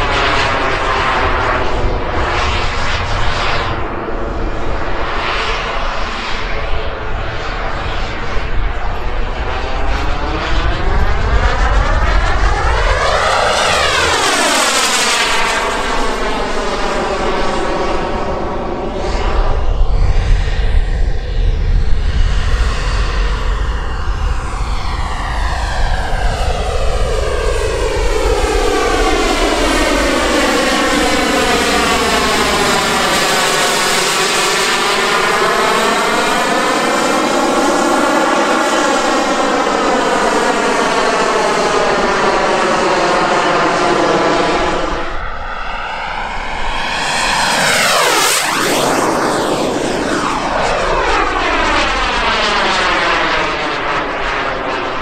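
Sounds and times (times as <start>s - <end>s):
model jets flying past: 0.0s - 55.0s.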